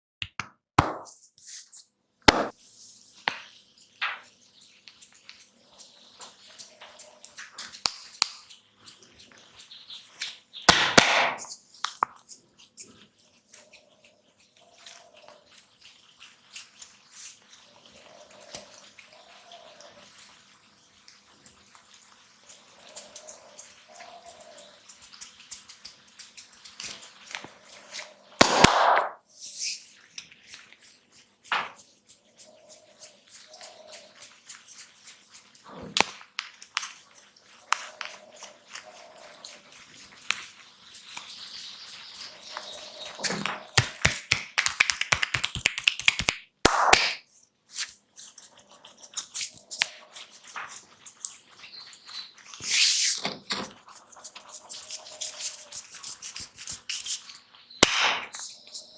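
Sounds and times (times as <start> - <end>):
small clicks and wet crackles: 3.1 - 10.7, 11.5 - 28.4, 29.9 - 46.5, 47.2 - 52.8, 53.4 - 58.9.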